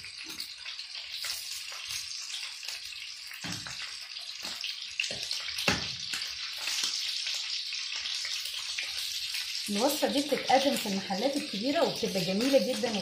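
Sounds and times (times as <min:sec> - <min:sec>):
meat sizzling in a hot pan: 0:00.0 - 0:13.0.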